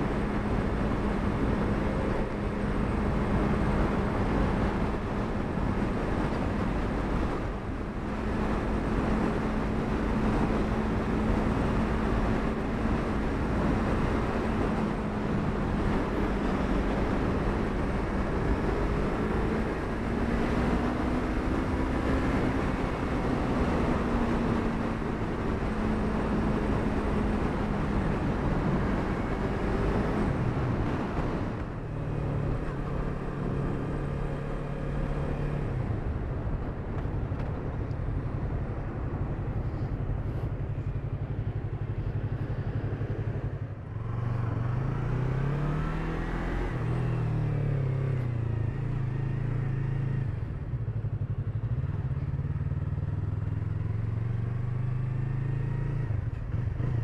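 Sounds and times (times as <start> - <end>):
wind rushing over microphone: 0.0 - 49.4.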